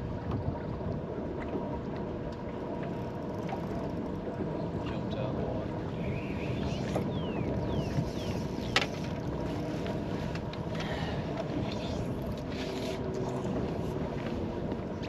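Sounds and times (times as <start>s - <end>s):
water lapping against boat hull: 0.0s - 15.0s
wind: 0.0s - 15.0s.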